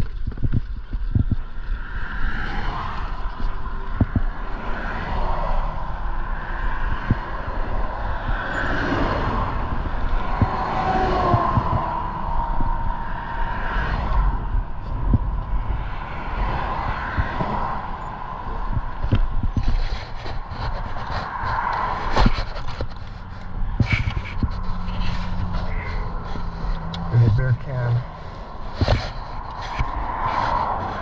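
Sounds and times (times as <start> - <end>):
cars passing: 0.0 - 31.0
low traffic rumble: 0.0 - 31.0.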